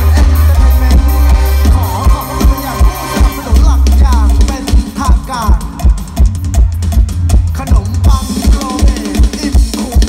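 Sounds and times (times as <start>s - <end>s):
heavy kick drum beat: 0.0s - 10.0s
live band over sound system: 0.0s - 10.0s.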